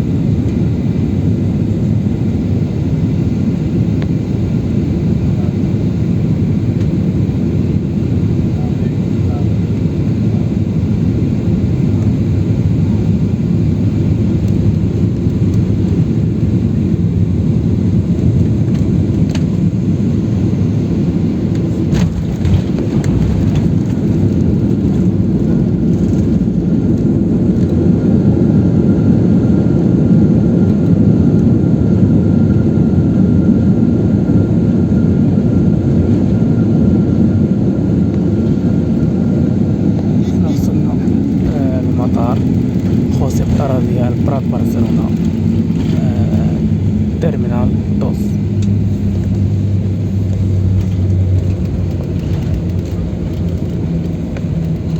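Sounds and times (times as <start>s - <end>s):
jet engine and airflow noise: 0.0s - 54.9s.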